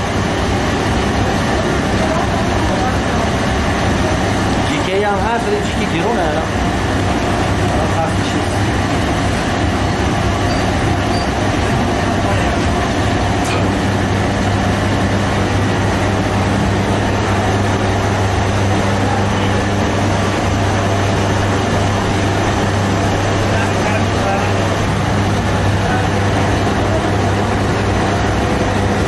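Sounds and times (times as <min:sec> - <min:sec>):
machinery humming and rushing: 0:00.0 - 0:29.0.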